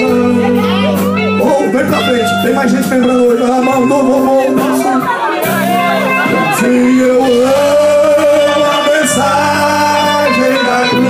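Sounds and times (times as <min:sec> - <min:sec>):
worship band and singers: 0:00.0 - 0:11.0.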